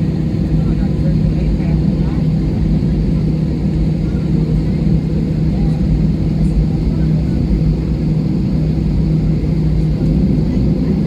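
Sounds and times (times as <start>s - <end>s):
jet airliner cabin hum: 0.0s - 11.0s.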